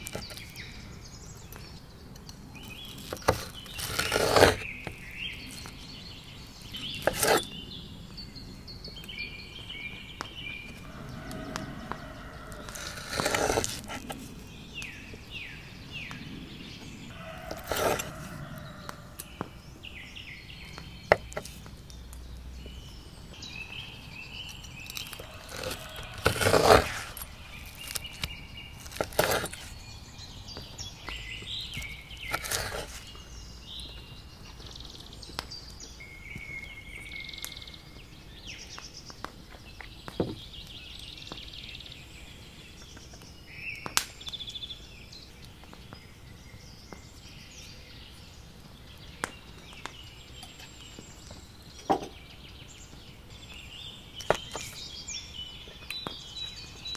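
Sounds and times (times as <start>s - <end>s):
small birds chirping and singing: 0.0s - 56.9s.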